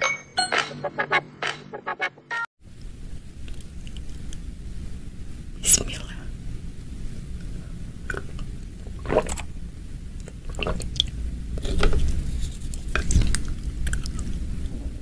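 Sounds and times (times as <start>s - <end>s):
low steady rumble: 2.6s - 15.0s.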